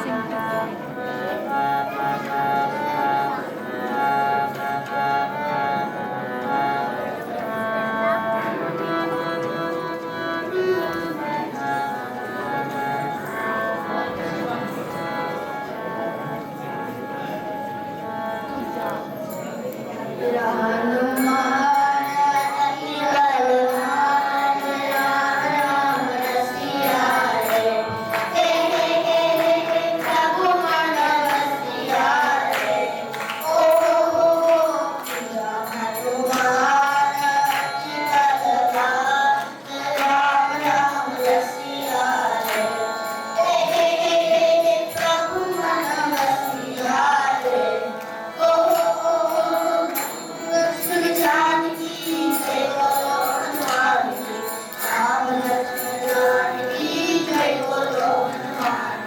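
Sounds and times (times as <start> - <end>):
instrumental accompaniment: 0.0 - 59.0.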